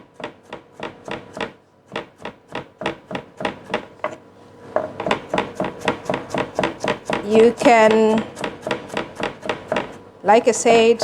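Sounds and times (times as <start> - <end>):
knife chopping on a chopping board: 0.0 - 4.2, 4.8 - 10.0.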